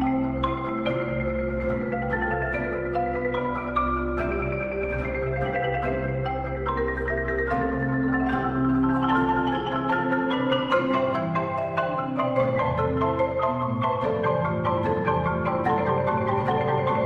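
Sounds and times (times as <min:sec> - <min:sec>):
marimba melody: 0:00.0 - 0:17.0.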